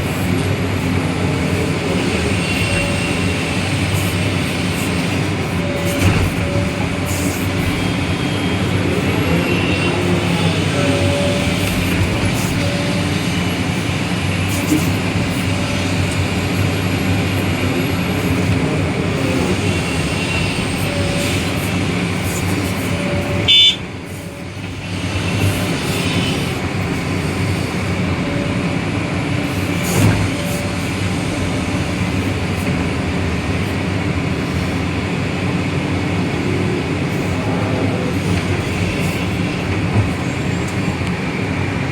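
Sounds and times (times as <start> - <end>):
diesel engines running under load: 0.0 - 41.9.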